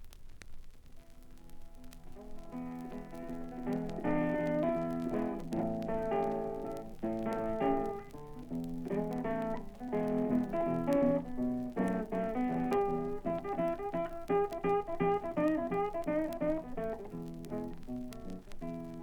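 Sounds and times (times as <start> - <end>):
blues guitar playing: 1.9 - 19.0.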